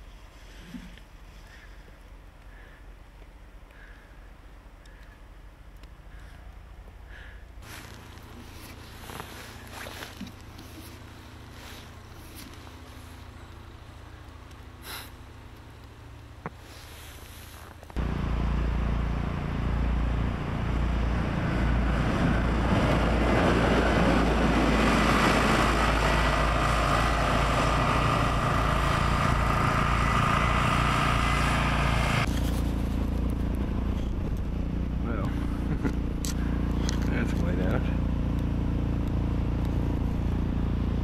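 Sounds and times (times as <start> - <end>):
wheel loader diesel engine: 4.8 - 41.0.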